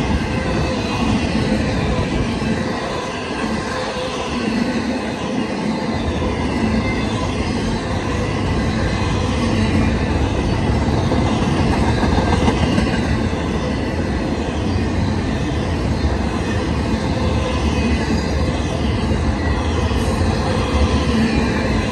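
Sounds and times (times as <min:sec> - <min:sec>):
freight train wheels rumbling on rails: 0:00.0 - 0:21.9.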